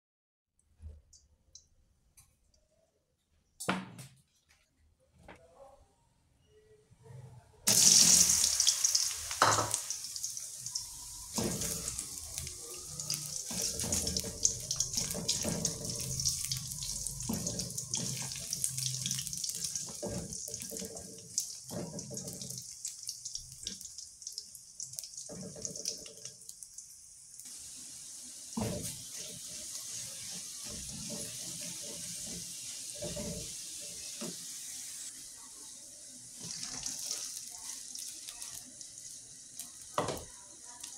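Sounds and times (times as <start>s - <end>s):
plantain slices sizzling in oil: 7.7s - 40.9s.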